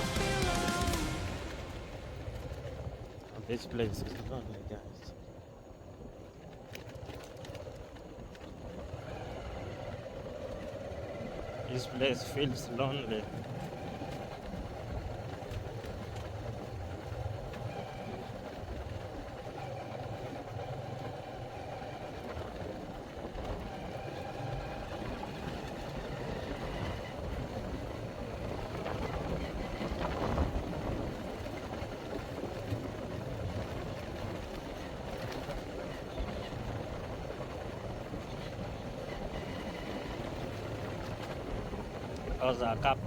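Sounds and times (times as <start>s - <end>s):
motor vehicle engine running: 0.0s - 5.2s, 5.8s - 43.0s
road and wind noise: 0.0s - 43.0s.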